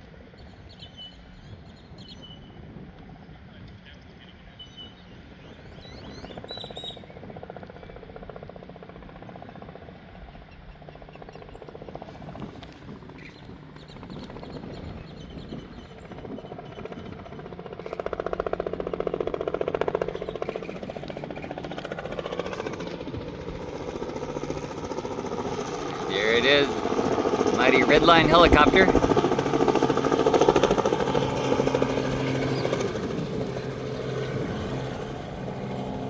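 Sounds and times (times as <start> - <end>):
helicopter rotor beat: 0.0 - 36.0.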